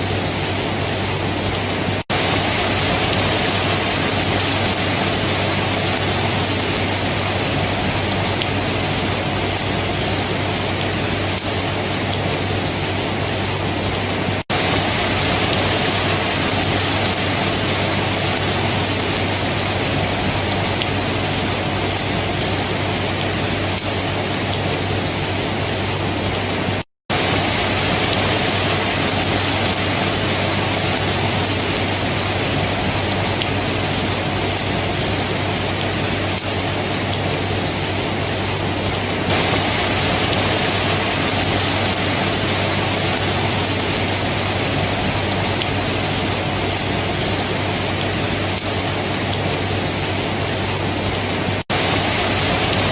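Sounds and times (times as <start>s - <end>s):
heavy rain hissing: 0.0s - 52.9s.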